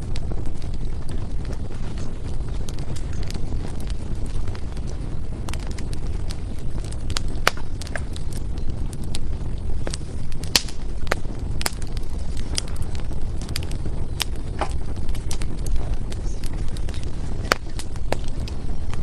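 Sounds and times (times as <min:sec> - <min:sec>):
firewood crackling and popping: 0:00.0 - 0:19.0
flames rumbling: 0:00.0 - 0:19.0.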